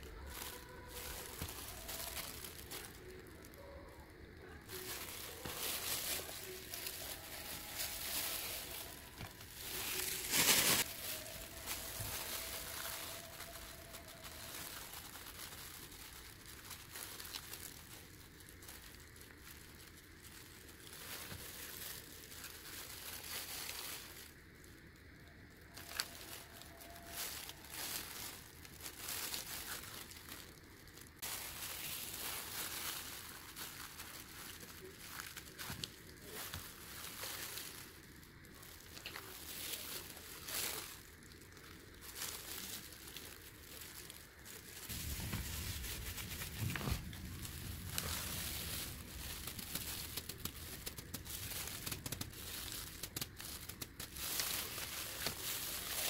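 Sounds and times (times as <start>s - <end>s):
newspaper rustling: 0.0s - 3.8s, 4.5s - 24.4s, 25.6s - 56.0s
plastic gloves crinkling: 0.0s - 56.0s.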